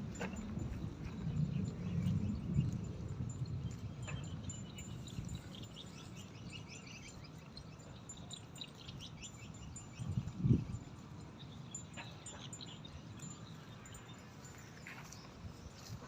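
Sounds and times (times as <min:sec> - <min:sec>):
small birds chirping: 0:00.2 - 0:16.0.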